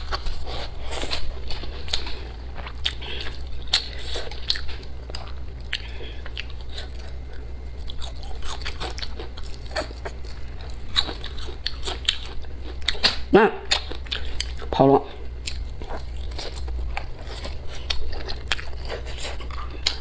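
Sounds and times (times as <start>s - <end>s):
person chewing and biting food: 0.0s - 20.0s
steady low hum: 0.0s - 20.0s.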